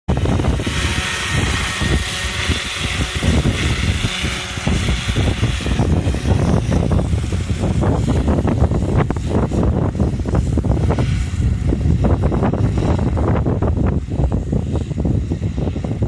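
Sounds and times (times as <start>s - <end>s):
helicopter engine and rotor: 0.1s - 16.0s
wind buffeting microphone: 0.1s - 16.0s.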